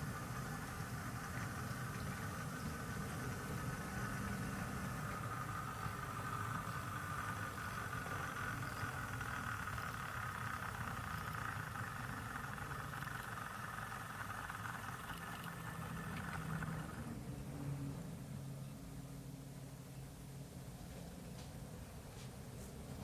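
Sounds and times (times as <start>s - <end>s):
model train locomotive humming: 0.0s - 18.7s.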